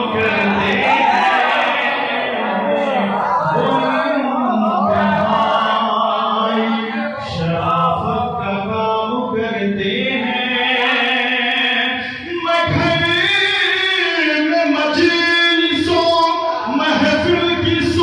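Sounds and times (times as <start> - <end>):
man chanting into microphone: 0.0 - 1.8, 3.0 - 18.0.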